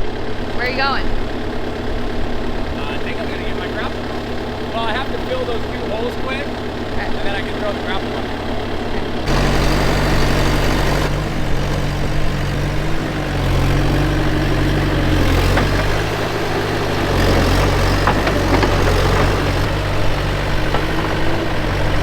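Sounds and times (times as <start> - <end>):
diesel engine under changing load: 0.0 - 22.0.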